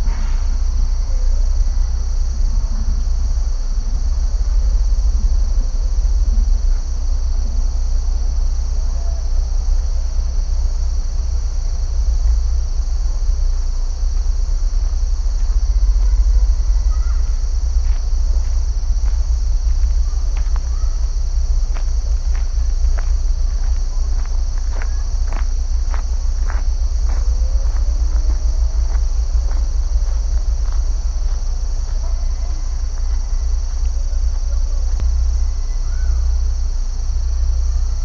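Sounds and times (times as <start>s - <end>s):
insects chirping: 0.0s - 38.0s
low rumble: 0.0s - 38.0s.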